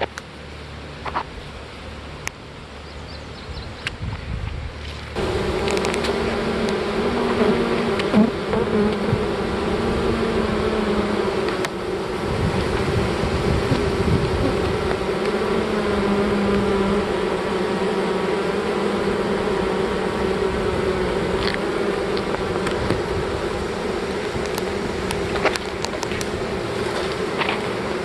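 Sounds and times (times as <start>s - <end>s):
honey bee swarm buzzing: 5.0s - 28.0s.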